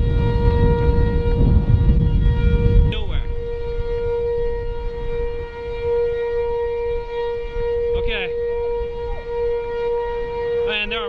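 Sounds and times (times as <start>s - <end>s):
warning siren wailing: 0.0s - 11.0s
wind rumble on microphone: 0.0s - 11.0s.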